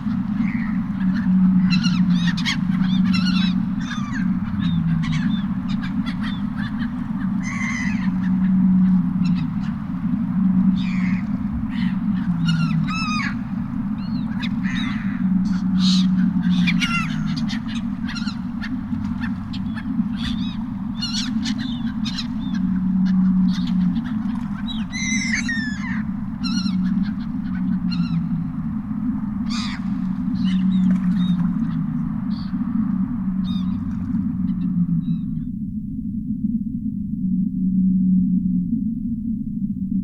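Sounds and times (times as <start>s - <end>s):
seagulls calling: 0.0s - 35.5s
steady low hum: 0.0s - 40.0s.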